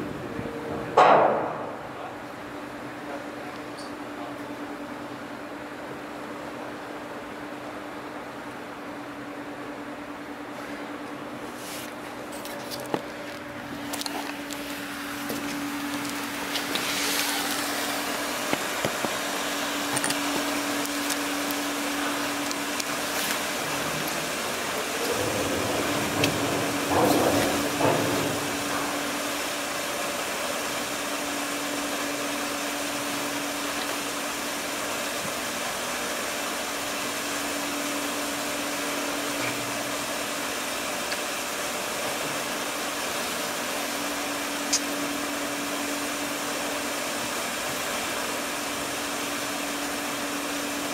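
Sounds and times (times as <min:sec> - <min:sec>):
ship machinery hum and whir: 0:00.0 - 0:50.9.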